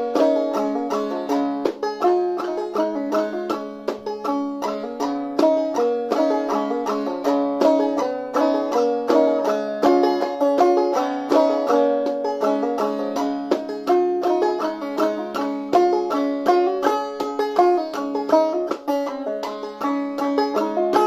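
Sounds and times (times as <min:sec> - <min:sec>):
banjo plucked notes: 0:00.0 - 0:21.0.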